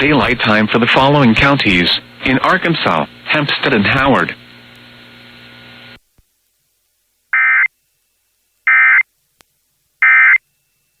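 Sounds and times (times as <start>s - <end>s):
faint broadcast hum: 0.0s - 11.0s.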